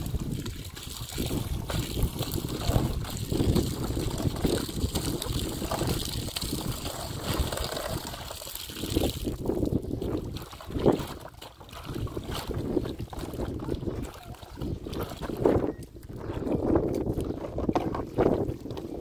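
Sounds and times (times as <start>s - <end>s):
water sloshing and splashing: 0.0s - 19.0s
wind rumbling on microphone: 0.0s - 19.0s.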